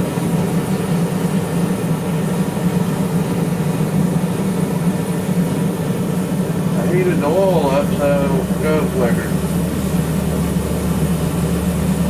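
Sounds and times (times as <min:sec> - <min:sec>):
forge low drone: 0:00.0 - 0:12.0.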